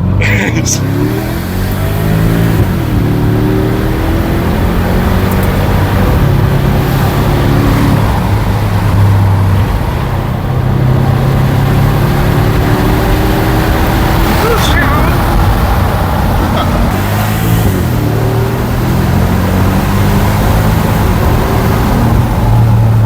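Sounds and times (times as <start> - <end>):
car engine running unmuffled: 0.0 - 23.0.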